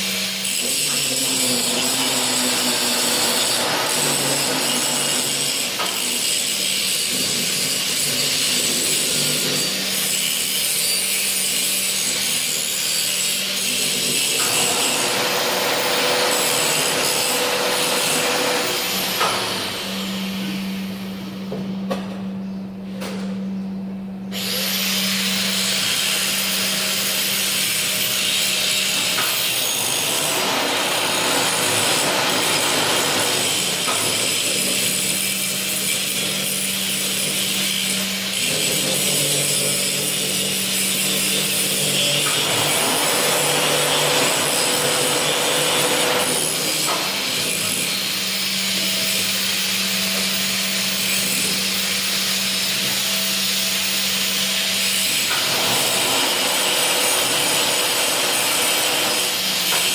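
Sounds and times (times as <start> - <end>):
angle grinder grinding steel: 0.0 - 20.6, 24.4 - 59.9.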